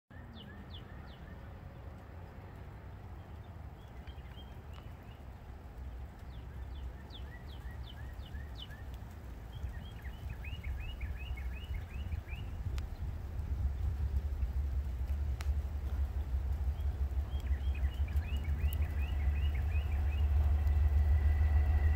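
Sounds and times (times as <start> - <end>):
small birds chirping: 0.1 - 21.9
steady low rumble: 0.1 - 21.9.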